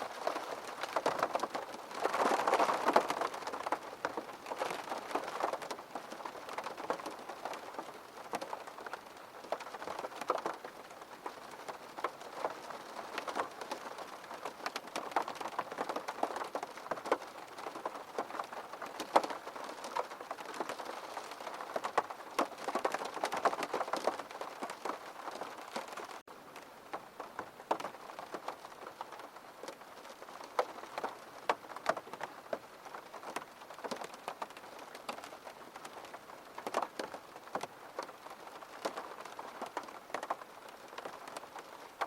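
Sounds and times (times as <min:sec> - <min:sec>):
raindrops striking surface: 0:00.0 - 0:42.0
steady rain hiss: 0:00.0 - 0:42.0.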